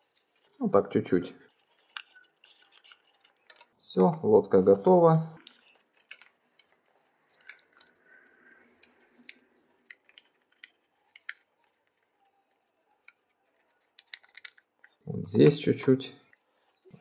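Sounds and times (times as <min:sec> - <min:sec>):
paper crinkling under fingers: 0:00.0 - 0:17.0
soft paper rustle: 0:00.0 - 0:17.0.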